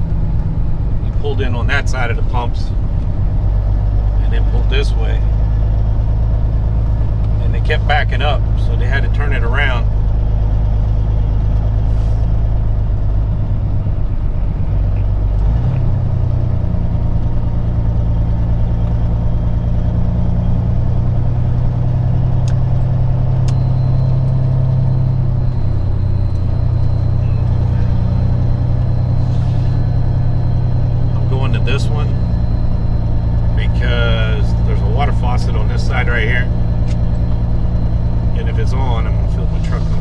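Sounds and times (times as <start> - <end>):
truck diesel engine running: 0.0 - 40.0.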